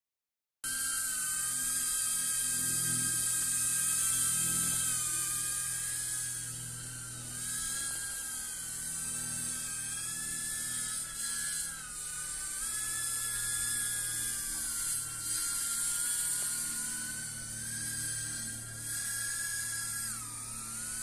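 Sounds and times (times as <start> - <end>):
drone propellers whining: 0.7 - 21.0.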